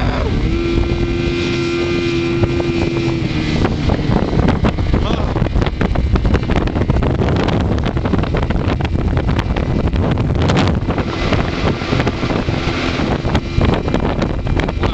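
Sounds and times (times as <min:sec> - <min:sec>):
speedboat outboard engine: 0:00.0 - 0:14.9
wind buffeting microphone: 0:00.0 - 0:14.9.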